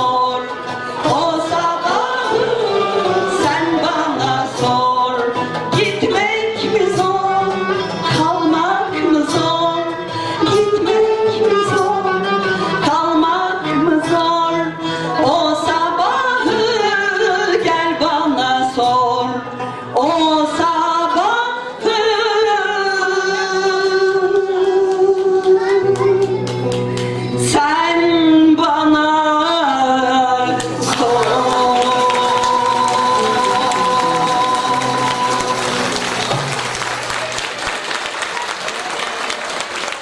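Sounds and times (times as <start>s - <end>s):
woman singing: 0.0s - 36.1s.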